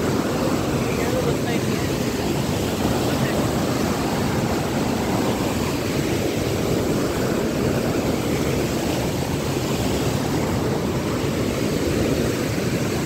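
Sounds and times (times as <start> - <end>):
river rushing over boulders: 0.0 - 13.0.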